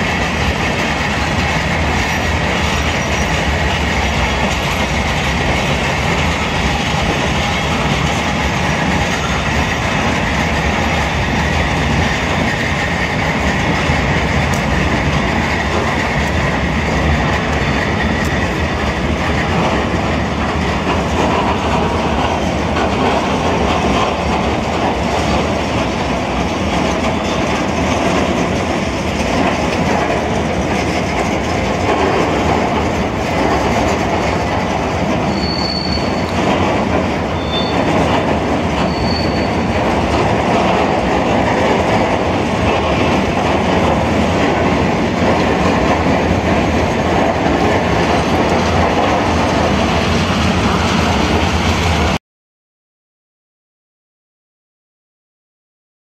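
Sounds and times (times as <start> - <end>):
train wheels running on rails: 0.0 - 52.2.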